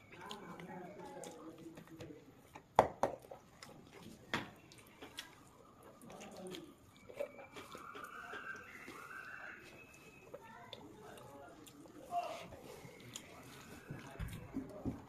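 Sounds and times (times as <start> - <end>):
fingers squishing food: 0.0 - 15.0.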